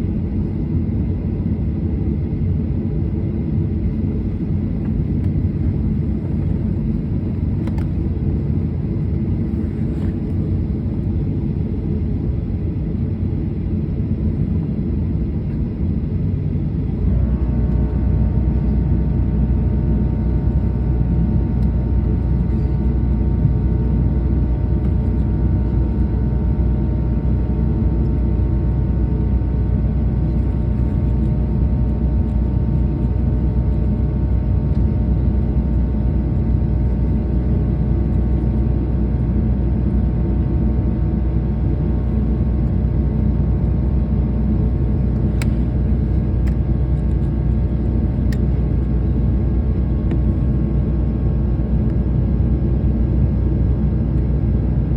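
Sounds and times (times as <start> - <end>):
airliner cabin rumble: 0.0 - 54.9
jet engine whine: 0.0 - 54.9.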